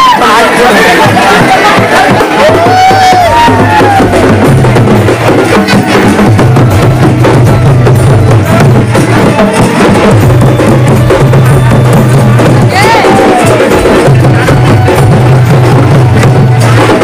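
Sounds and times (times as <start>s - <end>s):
fast folk drumming: 0.0s - 17.0s.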